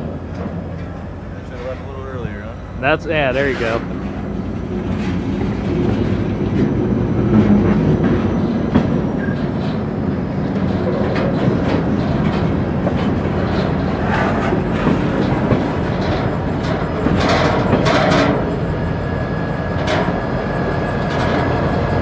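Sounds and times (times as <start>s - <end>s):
steel wheels rumbling on rail: 0.0s - 22.0s
wheels clunking over rail joints: 0.0s - 22.0s.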